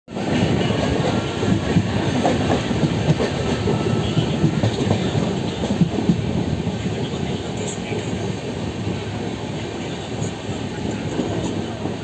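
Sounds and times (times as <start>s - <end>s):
train wheels rumbling on rail: 0.1s - 12.0s.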